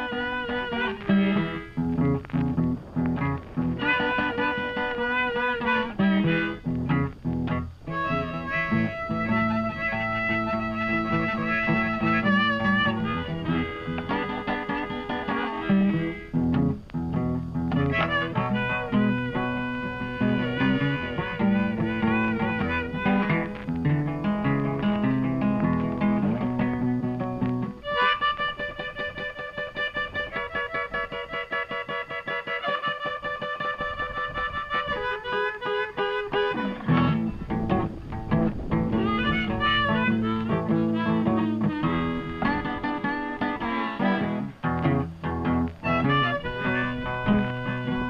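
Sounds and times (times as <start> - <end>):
instrumental plucked-string music: 0.0 - 48.0.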